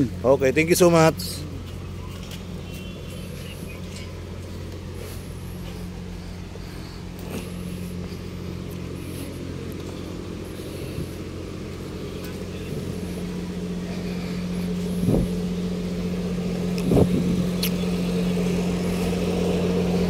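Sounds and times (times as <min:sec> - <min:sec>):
road traffic hum: 0:00.0 - 0:20.0.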